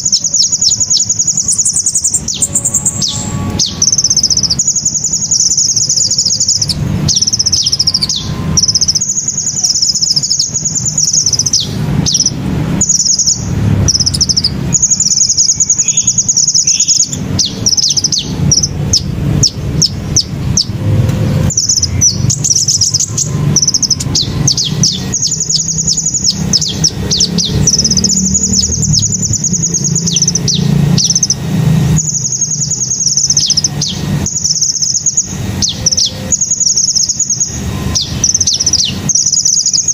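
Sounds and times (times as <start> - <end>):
bird chirps: 0.0 - 39.9
bird singing trilled phrases: 0.0 - 39.9
low steady rumble: 0.0 - 39.9.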